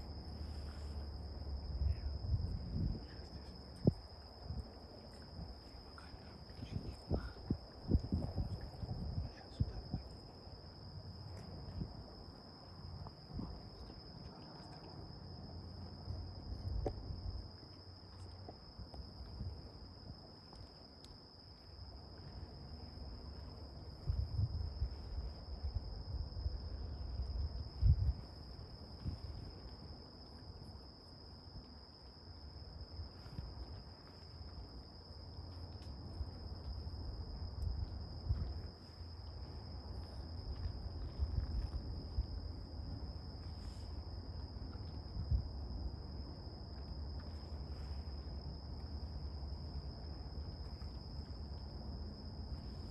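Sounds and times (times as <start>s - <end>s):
insects trilling: 0.0s - 52.9s.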